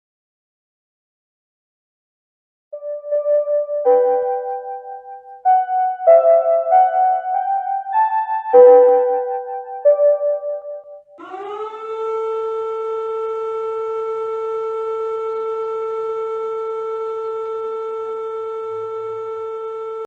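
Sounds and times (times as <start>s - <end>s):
emergency warning siren: 2.8s - 20.0s.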